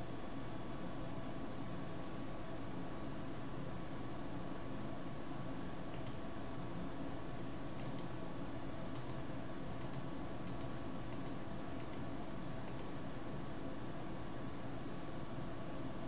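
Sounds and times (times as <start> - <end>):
background hiss and hum: 0.0 - 16.0.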